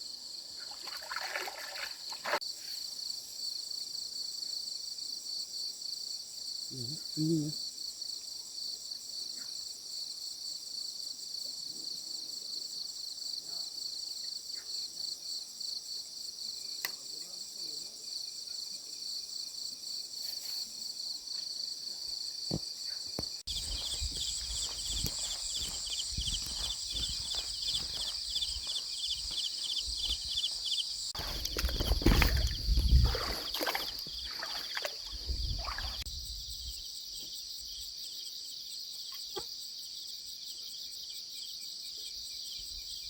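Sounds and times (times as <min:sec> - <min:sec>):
high pulsing insect chorus: 0:00.0 - 0:43.0
lower pulsing insect call: 0:00.0 - 0:43.0.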